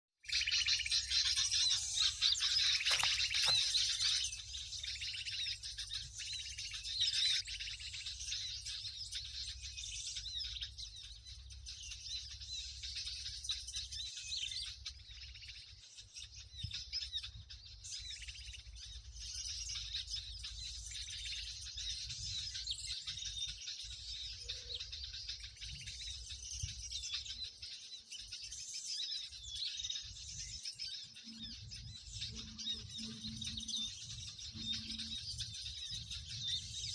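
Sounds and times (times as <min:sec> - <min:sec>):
small birds chirping: 0:00.2 - 0:36.9.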